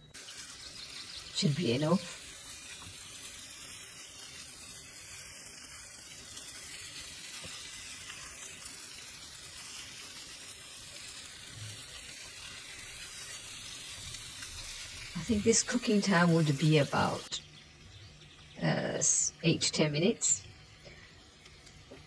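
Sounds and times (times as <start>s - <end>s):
chicken frying in oil: 0.0s - 22.0s.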